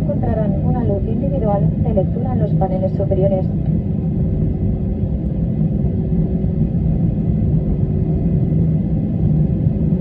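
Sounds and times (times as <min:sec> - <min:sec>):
jet engine cabin rumble: 0:00.0 - 0:10.0.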